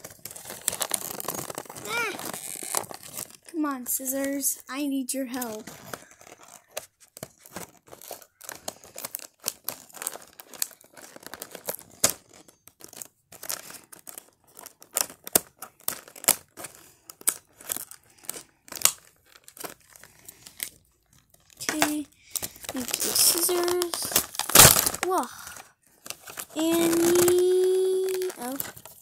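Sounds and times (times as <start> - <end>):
packaging crinkling and tearing: 0.0 - 4.4, 5.2 - 29.0.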